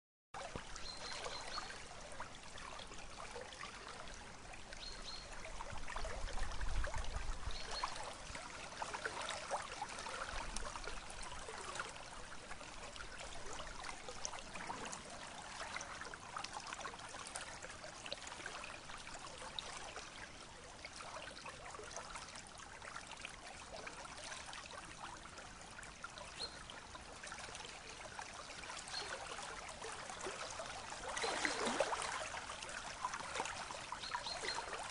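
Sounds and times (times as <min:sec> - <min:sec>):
river water flowing: 0:00.4 - 0:34.9.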